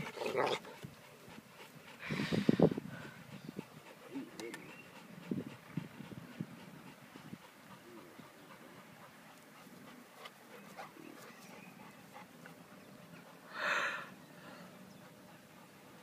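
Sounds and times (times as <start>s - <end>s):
dog panting: 0.0s - 13.5s, 14.6s - 16.0s.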